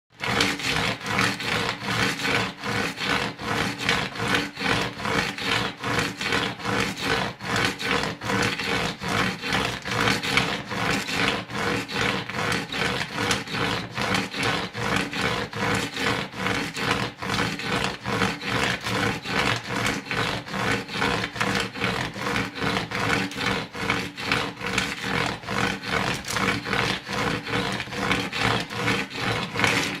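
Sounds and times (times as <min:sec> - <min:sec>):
rough rubbing strokes: 0:00.2 - 0:30.0.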